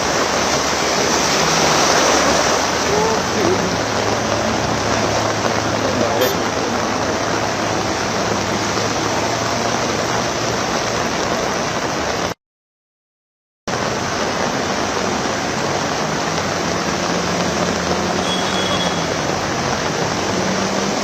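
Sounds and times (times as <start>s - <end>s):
heavy rain pouring: 0.0s - 12.4s, 13.7s - 21.0s
low traffic hum: 0.0s - 12.4s, 13.7s - 21.0s.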